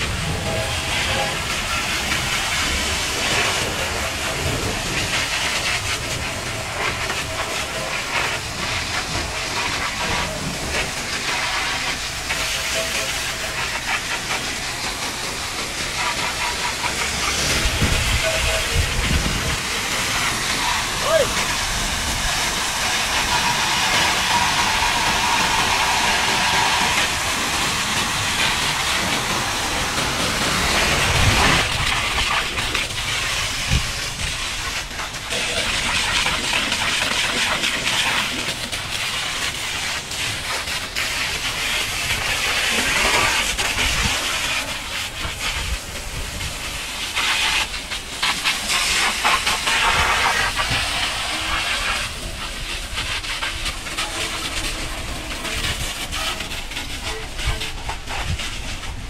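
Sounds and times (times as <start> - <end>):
pressure washer jet hissing: 0.0 - 59.0
water spattering on ground: 0.0 - 59.0.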